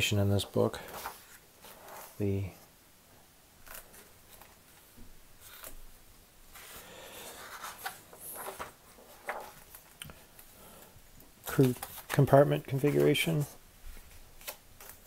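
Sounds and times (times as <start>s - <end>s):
book pages turning: 0.4s - 2.2s, 3.6s - 10.5s, 11.4s - 15.0s.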